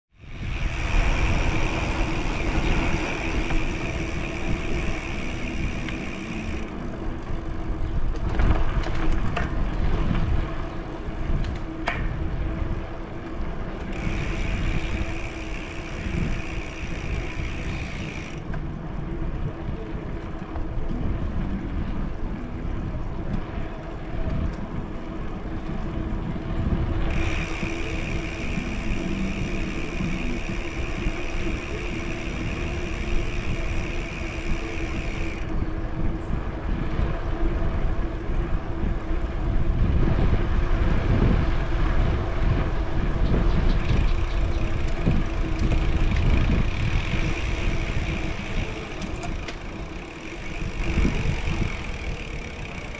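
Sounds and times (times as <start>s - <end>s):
bicycle tyre rumble: 0.1s - 52.9s
steady low hum: 0.1s - 52.9s
wind rushing over microphone: 0.1s - 52.9s.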